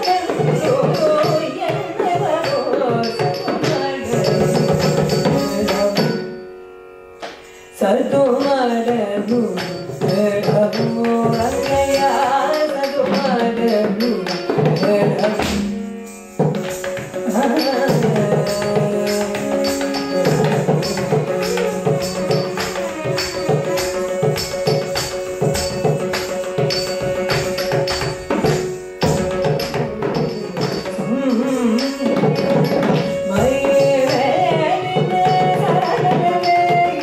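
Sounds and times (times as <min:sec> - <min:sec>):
classical music with singer and drum: 0:00.0 - 0:37.0.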